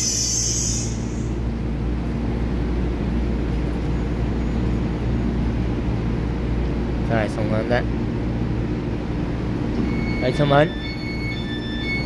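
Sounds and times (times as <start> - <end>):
electric train humming: 0.0 - 7.0, 7.9 - 12.0.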